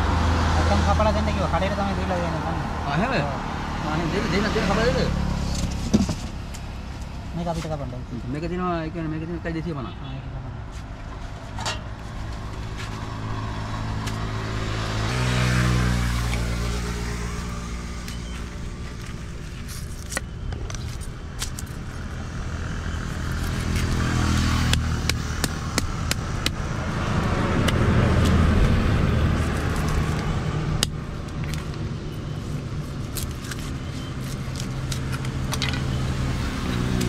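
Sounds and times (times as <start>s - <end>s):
vehicles passing by: 0.0s - 37.0s.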